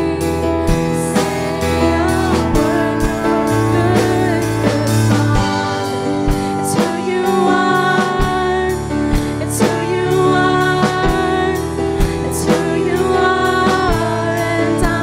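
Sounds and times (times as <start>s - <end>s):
drum kit steady beat: 0.0s - 15.0s
keyboard: 0.0s - 15.0s
women singing: 0.0s - 15.0s.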